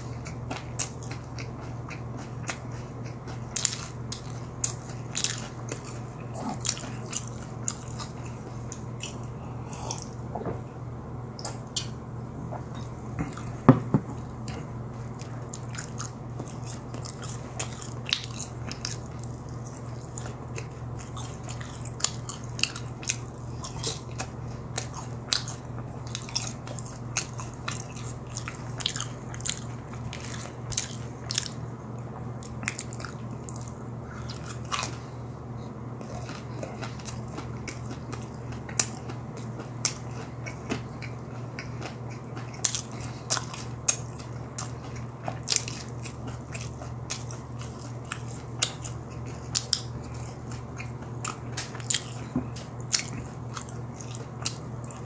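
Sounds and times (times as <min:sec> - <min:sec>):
crunching and chewing food: 0:00.0 - 0:10.6, 0:11.4 - 0:55.0
steady low hum: 0:00.0 - 0:55.0.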